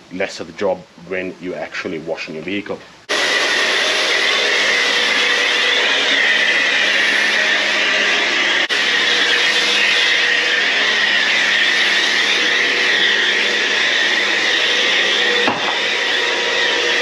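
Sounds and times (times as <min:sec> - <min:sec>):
hissing spray: 0:02.4 - 0:17.0
pressure washer pump humming: 0:02.8 - 0:17.0.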